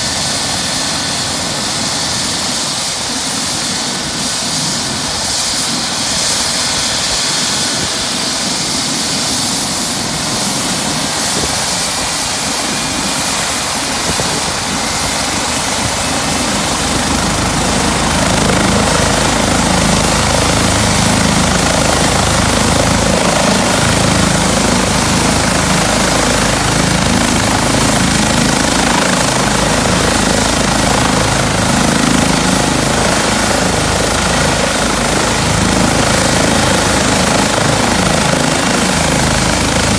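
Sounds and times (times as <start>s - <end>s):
deep helicopter rotor beat: 0.0s - 39.9s
helicopter turbine whine: 0.0s - 39.9s.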